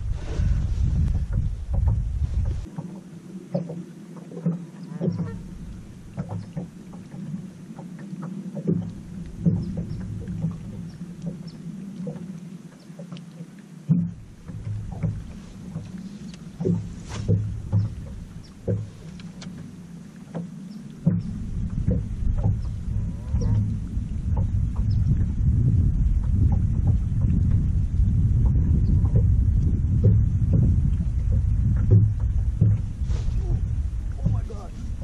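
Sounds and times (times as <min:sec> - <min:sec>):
low rumble: 0:00.0 - 0:35.0
waves slapping against boat hull: 0:00.0 - 0:35.0.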